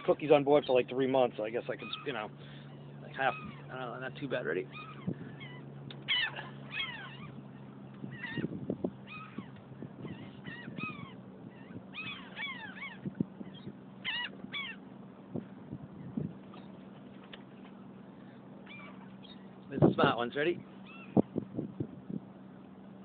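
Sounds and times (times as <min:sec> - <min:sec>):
terns calling: 0:00.0 - 0:21.4
low hum: 0:00.0 - 0:23.0.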